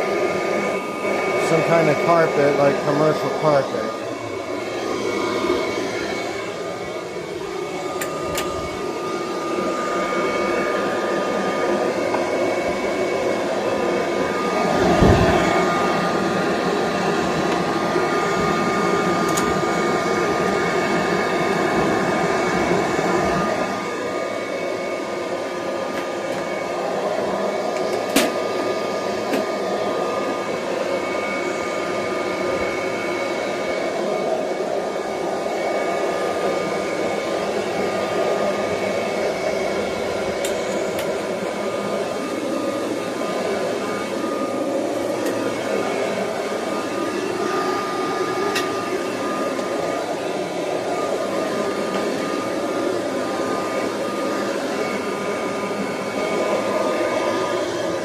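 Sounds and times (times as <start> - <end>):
upright vacuum whining: 0.0 - 58.0.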